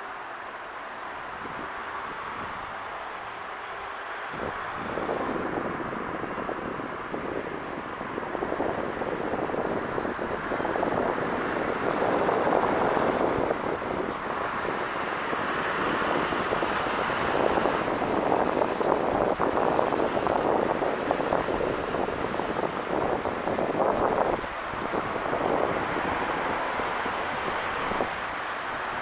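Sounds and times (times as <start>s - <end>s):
diesel railcar running: 0.0s - 29.0s
wind on microphone: 4.3s - 29.0s.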